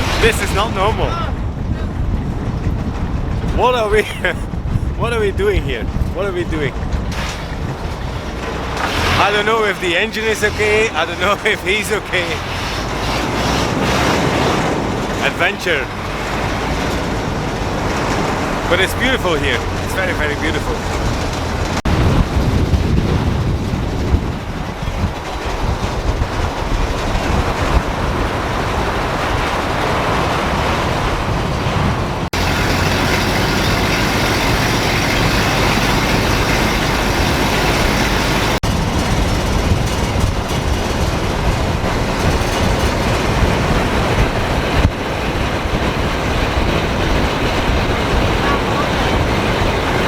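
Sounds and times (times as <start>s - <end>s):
motor engine rumbling: 0.0s - 50.0s
rushing noise: 0.0s - 50.0s.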